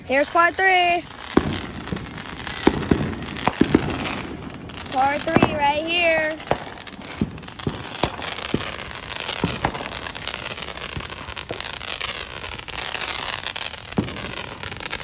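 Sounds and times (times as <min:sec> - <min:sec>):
fireworks crackling: 0:00.0 - 0:15.0
fireworks sharp bangs: 0:00.0 - 0:15.0.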